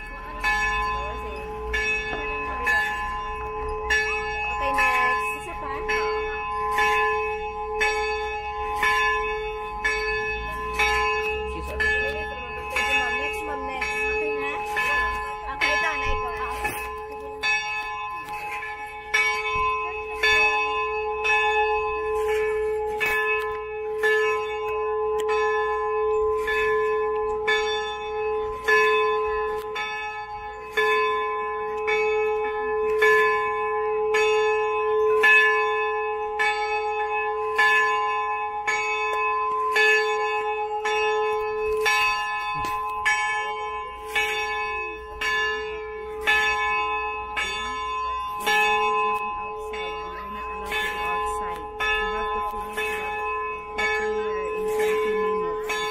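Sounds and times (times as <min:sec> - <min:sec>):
church bell ringing: 0:00.0 - 0:55.9.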